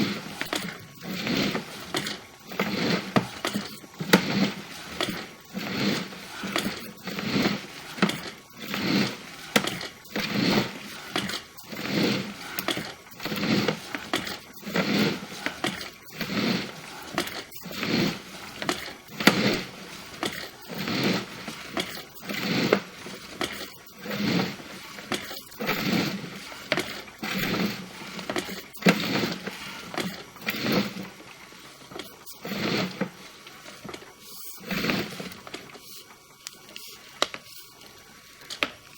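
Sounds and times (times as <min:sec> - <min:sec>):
cable scraping and rustling: 0:00.0 - 0:38.9.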